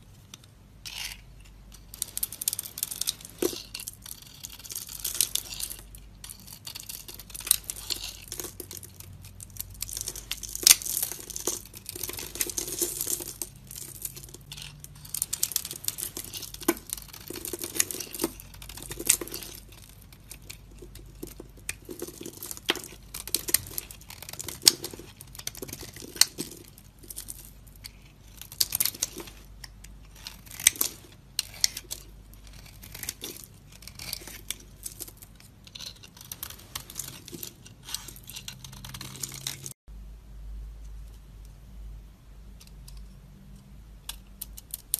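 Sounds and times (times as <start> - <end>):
hands crumbling soap pieces: 1.8 - 39.8.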